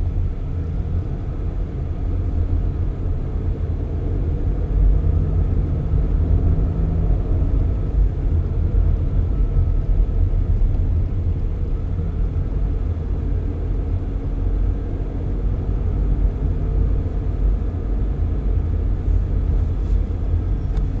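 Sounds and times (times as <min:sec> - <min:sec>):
car engine: 0:00.0 - 0:21.0
road and wind noise: 0:00.0 - 0:21.0.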